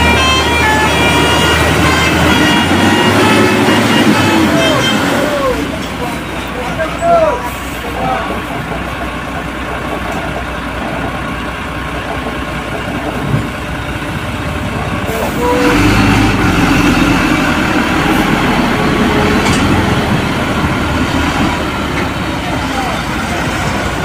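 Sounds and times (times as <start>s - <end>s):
truck diesel engine: 0.0s - 24.0s.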